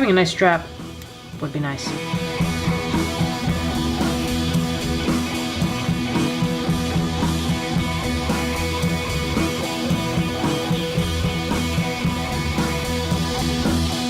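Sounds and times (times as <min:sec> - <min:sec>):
rock music with guitar and drums: 0:00.0 - 0:14.0.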